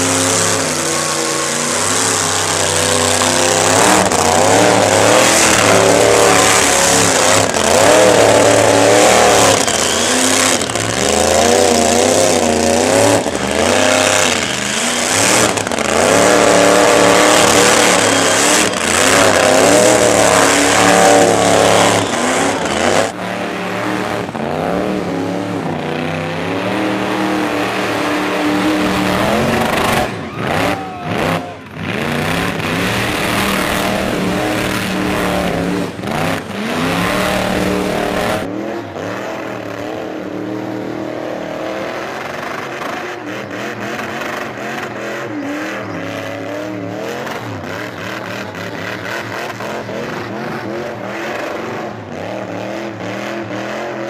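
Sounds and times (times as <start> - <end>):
car engine revving hard: 0.0 - 54.0.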